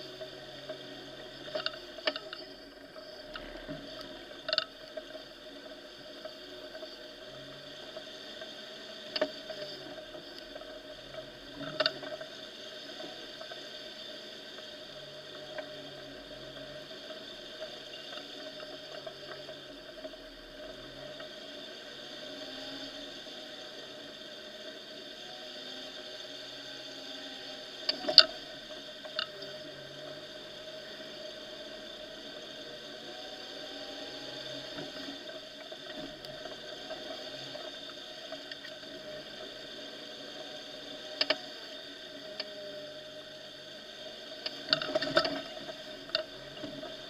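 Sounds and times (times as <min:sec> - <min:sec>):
muffled engine drone: 0:00.0 - 0:47.0.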